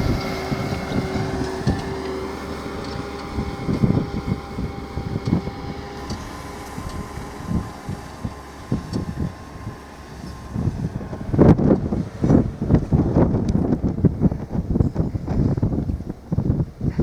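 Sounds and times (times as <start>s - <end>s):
tractor engine running: 0.0s - 17.0s
wind buffeting microphone: 0.0s - 17.0s.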